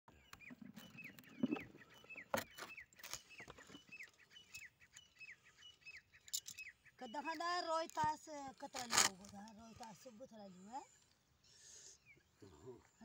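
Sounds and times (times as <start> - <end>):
bird chirping: 0.1 - 13.0.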